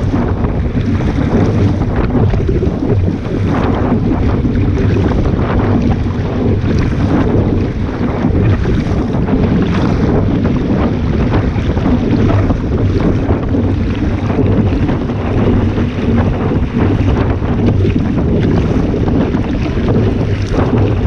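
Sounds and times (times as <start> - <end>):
water slapping against hull: 0.0 - 21.0
wind buffeting microphone: 0.0 - 21.0.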